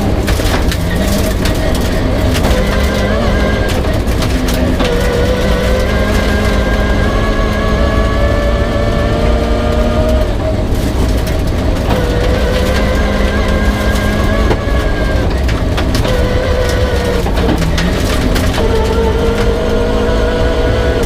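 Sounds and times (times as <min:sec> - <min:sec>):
rally car engine at speed: 0:00.0 - 0:21.0
sharp clicks and knocks: 0:00.0 - 0:21.0.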